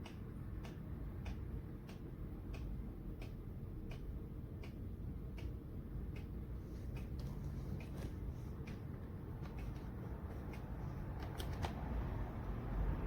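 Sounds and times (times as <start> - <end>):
light ticking: 0.0 - 11.6.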